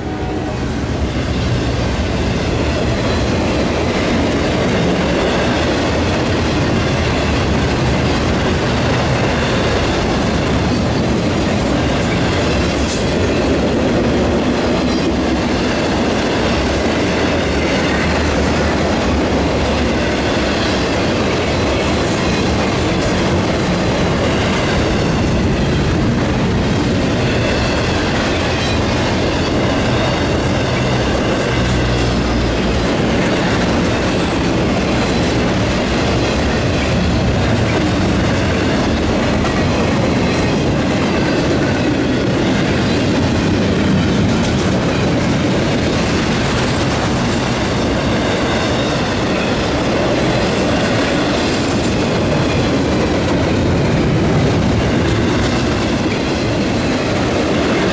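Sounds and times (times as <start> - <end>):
freight train wheels clattering: 0.0 - 57.9.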